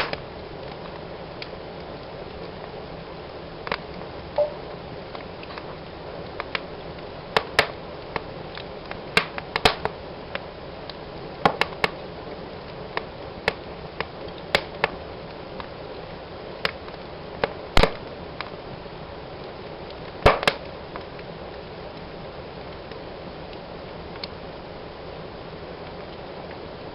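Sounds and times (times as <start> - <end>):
fire crackling and popping: 0.0 - 26.9.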